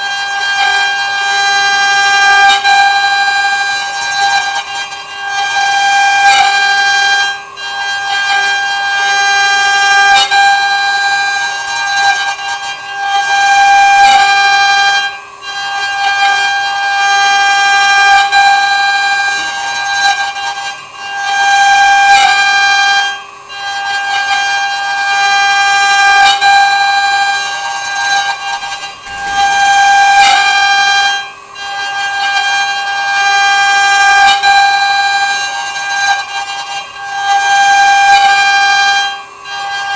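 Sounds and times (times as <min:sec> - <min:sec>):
wood router high whine: 0:00.0 - 0:39.9.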